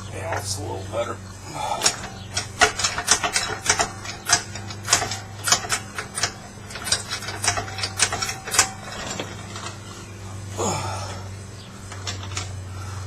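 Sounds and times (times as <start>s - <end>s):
hand tools clicking on metal: 0.0s - 0.9s, 1.5s - 13.0s
low hum: 0.0s - 13.0s.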